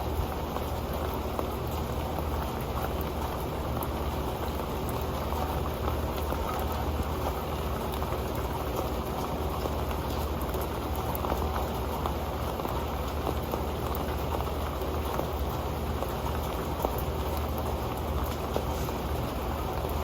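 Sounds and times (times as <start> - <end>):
rain pattering on a metal pan: 0.0 - 20.0.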